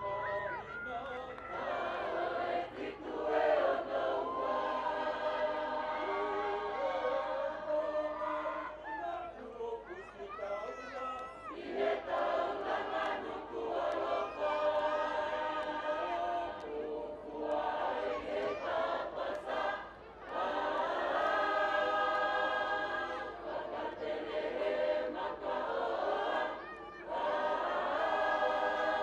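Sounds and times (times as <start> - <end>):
choir singing held chords: 0.0 - 10.6, 11.5 - 29.0.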